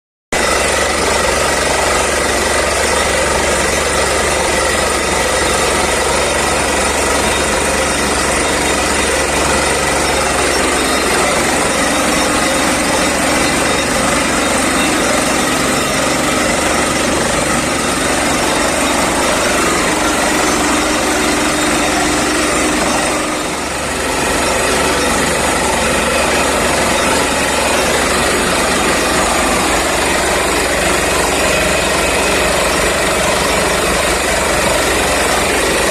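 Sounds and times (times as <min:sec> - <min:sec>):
drilling rig engine and drilling: 0:00.3 - 0:35.9.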